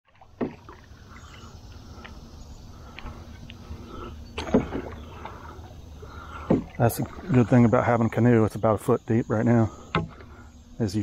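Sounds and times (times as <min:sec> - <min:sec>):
paddle in water: 0:00.0 - 0:11.0
paddle knocking canoe: 0:00.1 - 0:10.5.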